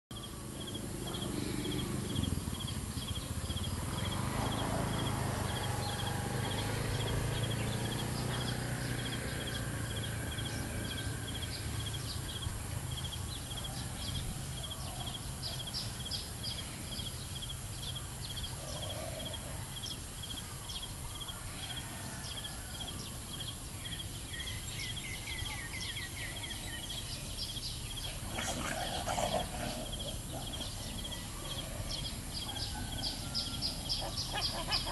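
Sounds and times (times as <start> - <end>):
insect chirping: 0.1 - 21.8, 22.4 - 34.9.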